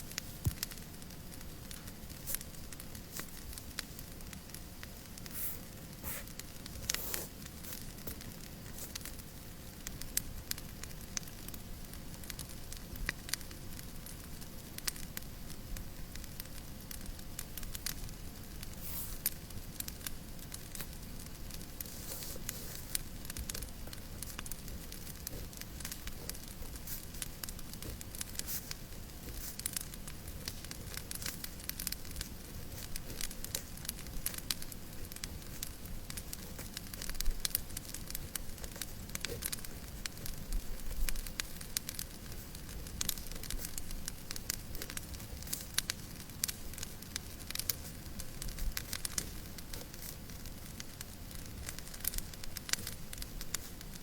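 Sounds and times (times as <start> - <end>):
fire hissing: 0.0 - 15.0, 16.2 - 54.0
wood fire crackling: 0.0 - 54.0.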